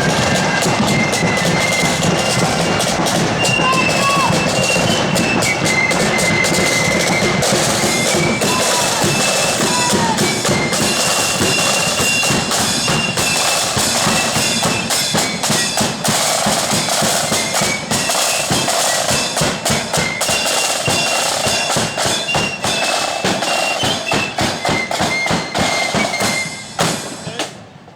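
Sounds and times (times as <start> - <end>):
shrill flutes: 0.0 - 27.4
bass and snare drumming: 0.0 - 27.9.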